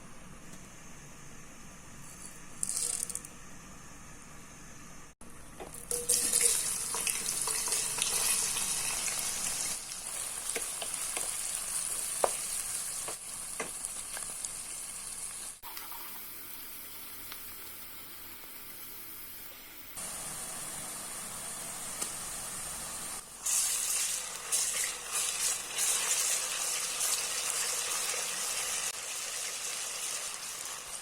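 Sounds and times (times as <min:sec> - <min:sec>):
food sizzling in hot oil: 0:05.9 - 0:31.0.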